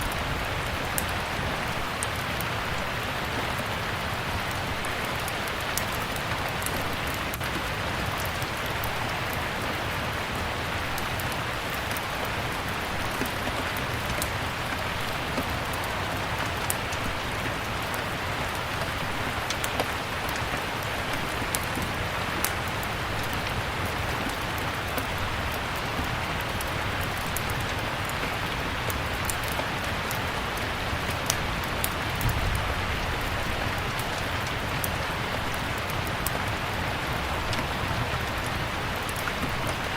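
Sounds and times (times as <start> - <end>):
steady rain falling: 0.0 - 39.9
wood fire crackling: 0.0 - 39.9.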